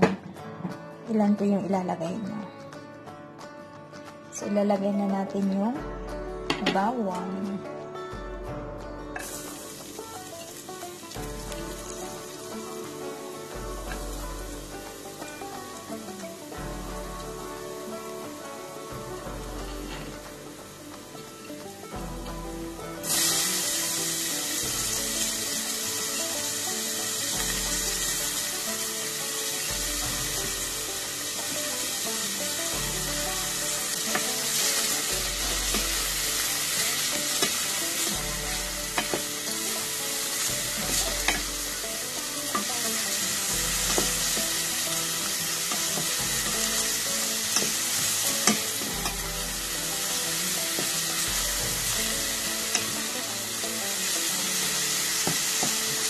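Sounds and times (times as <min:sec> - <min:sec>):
onion and garlic sizzling in oil: 0:09.2 - 0:56.0.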